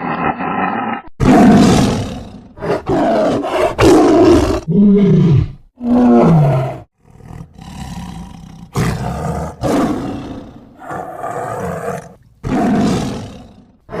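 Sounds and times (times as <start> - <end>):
tiger roaring: 0.0 - 14.0.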